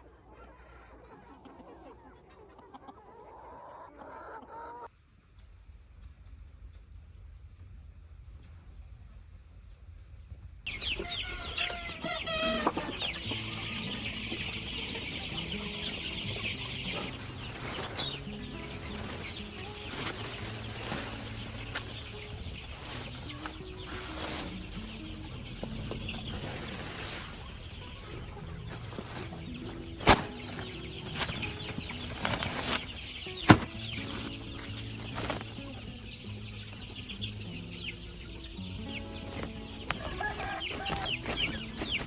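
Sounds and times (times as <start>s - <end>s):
chickens clucking: 0.0s - 4.9s, 10.7s - 42.0s.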